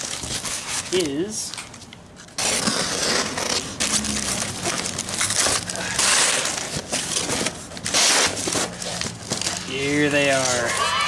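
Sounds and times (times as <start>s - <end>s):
cardboard rustling and scraping: 0.0s - 1.4s, 2.2s - 11.0s.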